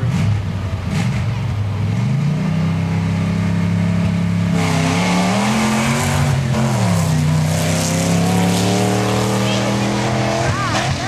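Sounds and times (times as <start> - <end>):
truck engines revving loudly: 0.0 - 11.0.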